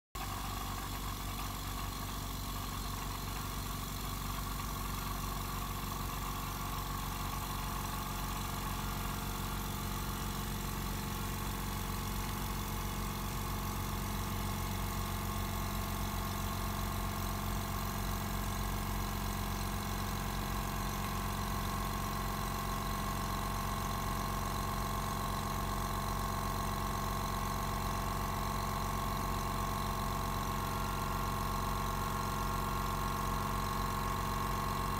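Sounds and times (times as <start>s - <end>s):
air compressor humming and whining: 0.2s - 34.9s.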